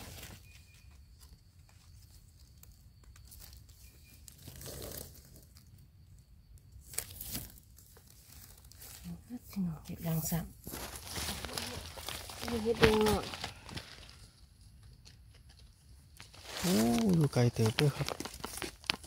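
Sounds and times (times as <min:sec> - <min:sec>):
rustling of dry leaf litter: 0:00.0 - 0:05.7, 0:06.8 - 0:14.5, 0:15.6 - 0:19.0.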